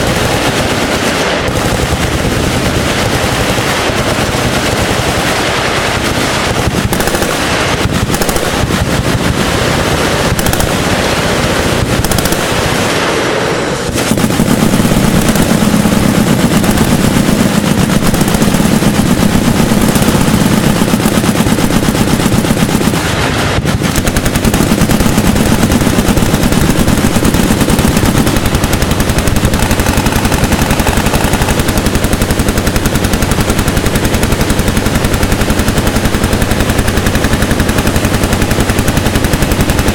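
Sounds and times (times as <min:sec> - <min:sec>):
machine guns firing: 0:00.0 - 0:39.9.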